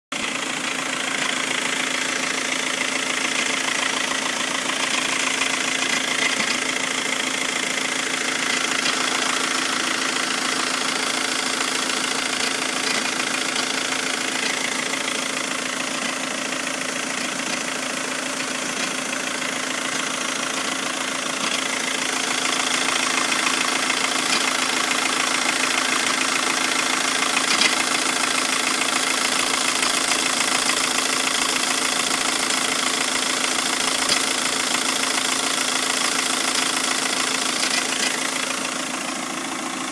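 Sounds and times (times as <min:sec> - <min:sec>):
diesel engine idling: 0:00.1 - 0:39.9.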